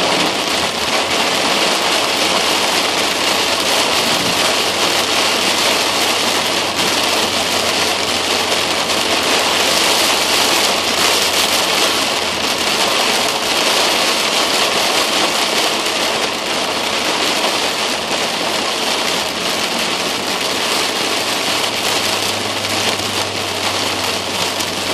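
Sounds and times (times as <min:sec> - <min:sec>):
heavy rain on car roof: 0:00.0 - 0:24.9.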